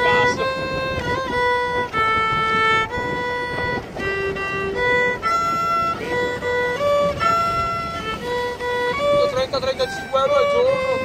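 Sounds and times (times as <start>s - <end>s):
solo violin waltz: 0.0s - 11.0s.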